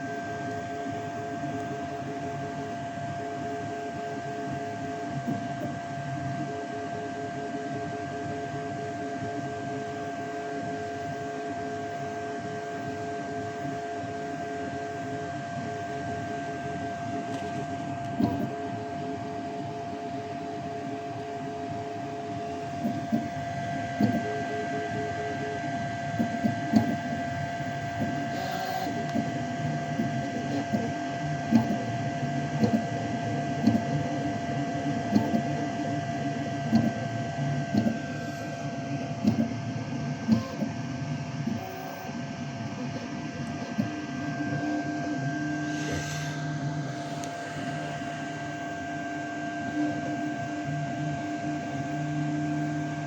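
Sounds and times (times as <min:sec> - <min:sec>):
three-d printer motor whine: 0:00.0 - 0:53.0.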